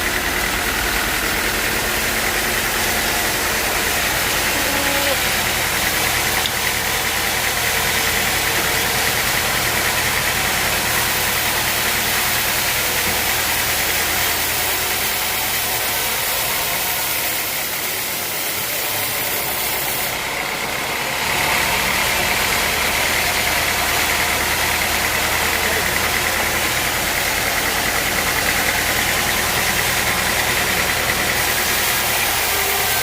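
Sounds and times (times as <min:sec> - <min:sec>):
sawmill machinery whining: 0:00.0 - 0:33.0.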